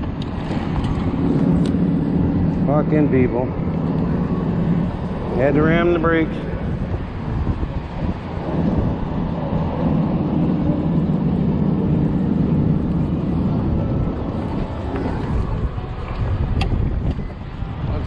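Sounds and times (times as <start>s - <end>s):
passing vehicle engine: 0.0s - 18.0s
wind buffeting microphone: 0.0s - 18.0s.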